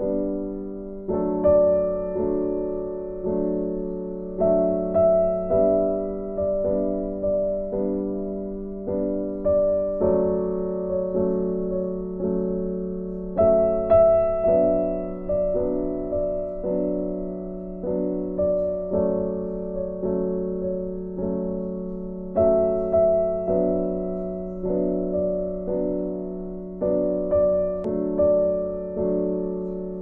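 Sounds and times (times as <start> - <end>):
slow gentle piano piece: 0.0 - 30.0.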